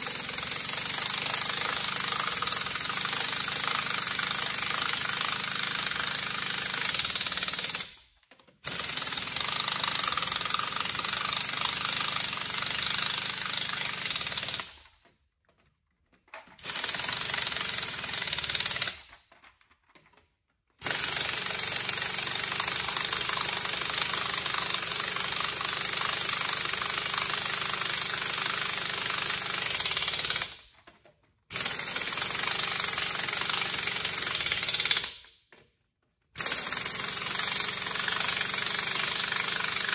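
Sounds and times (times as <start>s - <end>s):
pneumatic impact wrench hammering: 0.0s - 15.0s, 16.4s - 19.4s, 20.8s - 30.8s, 31.5s - 35.6s, 36.4s - 39.9s.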